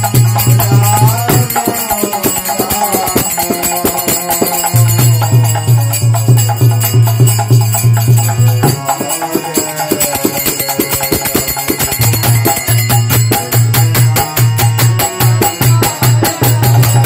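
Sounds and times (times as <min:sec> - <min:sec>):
hand cymbals jingling: 0:00.0 - 0:17.0
hand drum rhythm: 0:00.0 - 0:17.0
harmonium: 0:00.0 - 0:17.0
man singing: 0:00.0 - 0:17.0.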